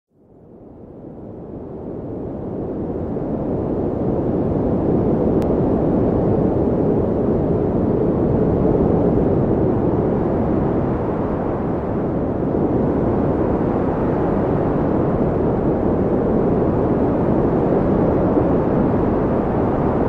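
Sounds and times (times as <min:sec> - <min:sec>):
blizzard wind blowing: 0:00.2 - 0:20.0.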